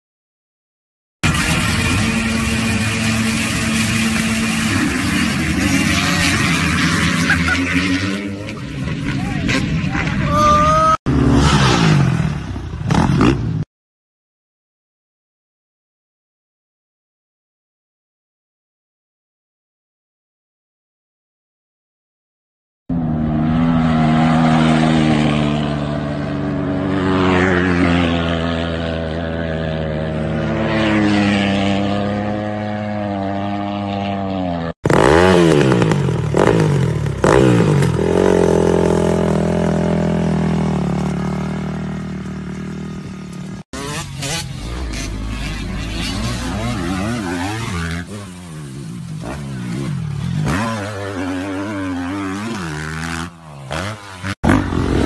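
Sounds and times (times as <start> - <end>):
dirt bike engines revving: 1.2 - 13.7, 22.9 - 55.0.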